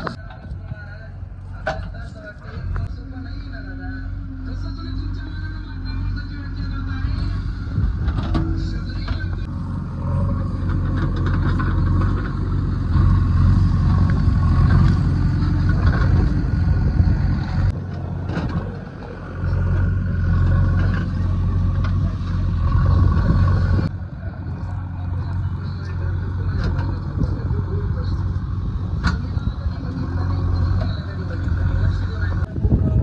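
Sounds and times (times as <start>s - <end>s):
diesel engine under load: 0.0s - 33.0s.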